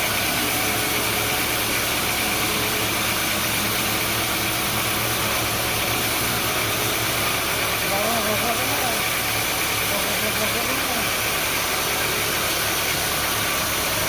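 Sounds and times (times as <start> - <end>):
sawmill machinery hum: 0.0 - 14.0.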